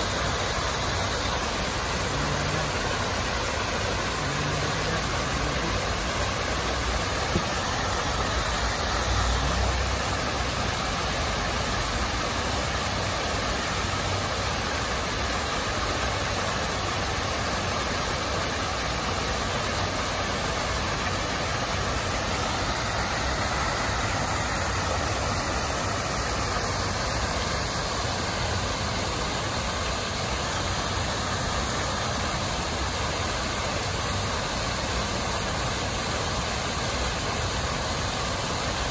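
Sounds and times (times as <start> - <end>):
water cascading over rocks: 0.0 - 38.9.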